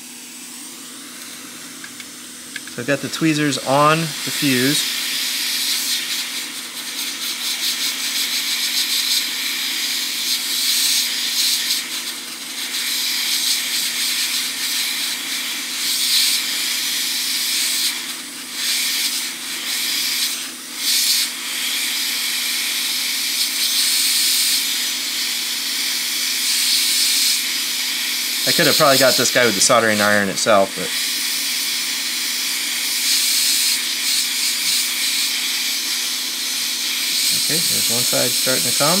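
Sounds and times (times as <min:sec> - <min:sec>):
hot air gun hissing: 0:00.0 - 0:39.0.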